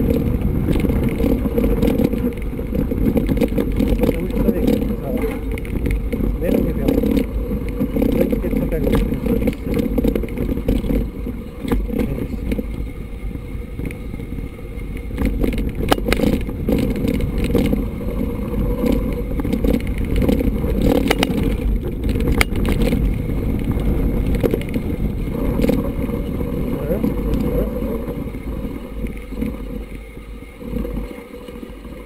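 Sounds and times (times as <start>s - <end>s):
bike clicks and rattles: 0.0s - 32.0s
bike tyres rumbling on gravel: 0.0s - 32.0s
wind on microphone: 0.0s - 32.0s.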